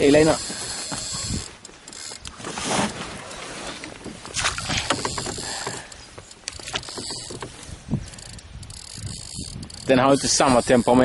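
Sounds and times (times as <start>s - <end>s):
oars swishing through water: 0.4s - 9.4s.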